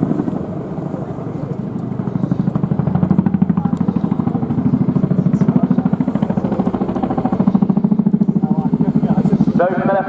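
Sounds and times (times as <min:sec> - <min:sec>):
helicopter rotors beating: 0:00.0 - 0:10.0.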